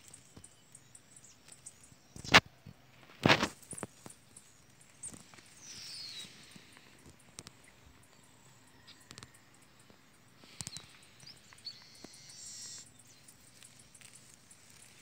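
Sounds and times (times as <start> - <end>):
rustles and clicks in grass: 0.0 - 15.0.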